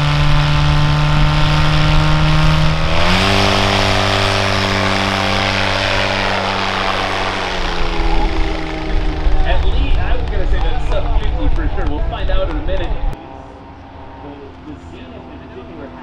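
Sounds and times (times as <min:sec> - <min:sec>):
airplane engine revving: 0:00.0 - 0:16.0
propeller noise: 0:00.0 - 0:16.0.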